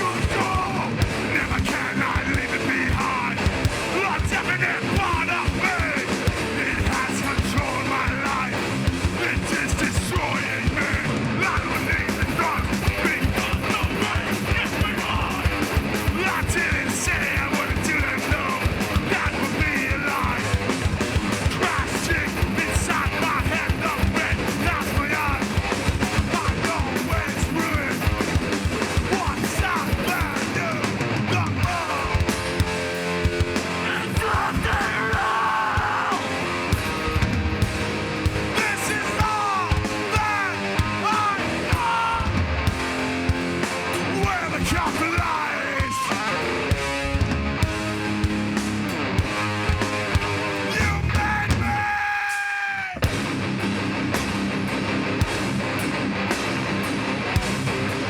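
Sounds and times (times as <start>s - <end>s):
fast heavy drumming: 0.0s - 52.4s, 53.0s - 58.0s
distorted guitars: 0.0s - 58.0s.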